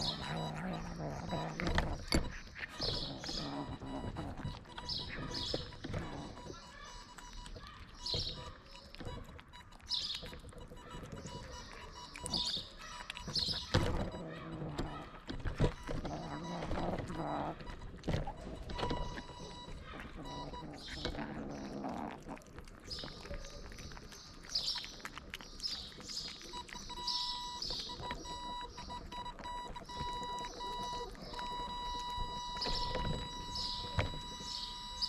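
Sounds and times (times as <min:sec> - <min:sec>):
kittens chewing and smacking: 0:00.0 - 0:35.0.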